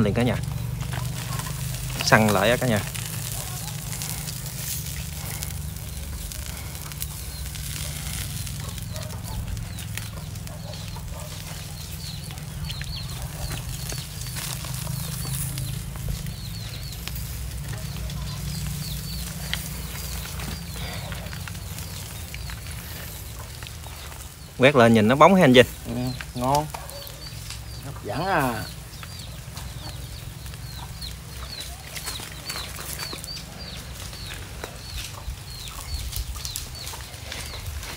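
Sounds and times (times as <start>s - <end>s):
birds chirping: 0.0s - 37.9s
charcoal fire crackling: 0.0s - 37.9s.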